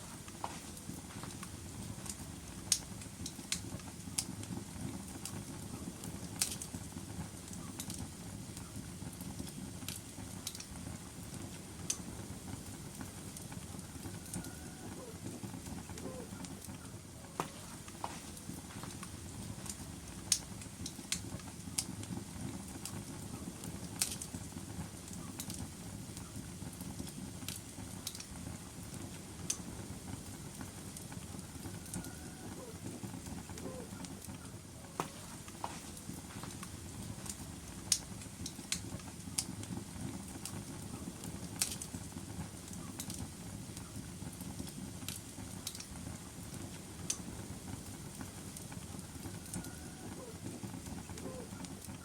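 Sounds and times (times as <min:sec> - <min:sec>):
logs crackling in fireplace: 0:00.0 - 0:52.0.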